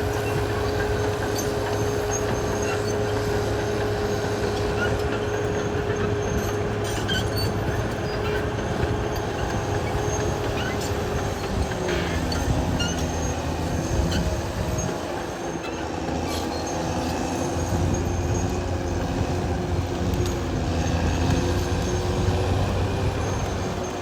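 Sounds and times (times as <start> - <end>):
bulldozer diesel engine droning: 0.0 - 24.0
steel tracks running: 0.0 - 24.0.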